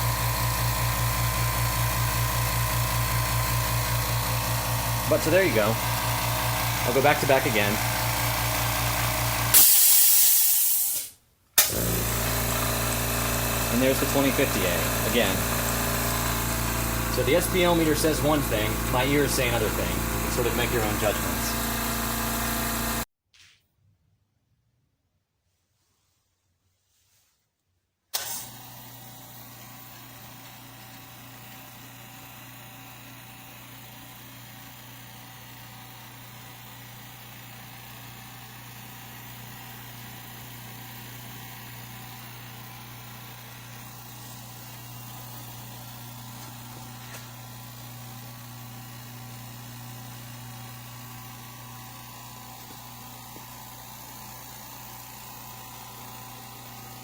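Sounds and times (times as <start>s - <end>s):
air compressor running: 0.0s - 23.1s, 28.2s - 57.0s.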